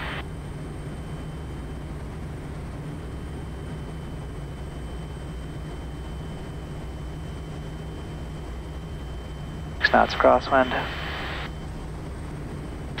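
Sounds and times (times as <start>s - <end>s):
faint high whine: 0.0s - 13.0s
turboprop engine drone: 0.0s - 13.0s.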